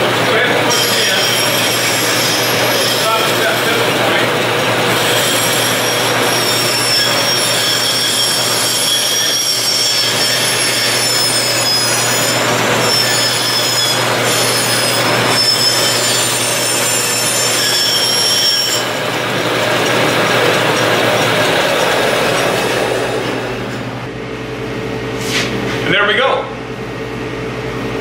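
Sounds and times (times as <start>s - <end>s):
bandsaw motor hum: 0.0s - 24.7s
high wavering blade whine: 0.3s - 4.2s, 4.9s - 23.8s.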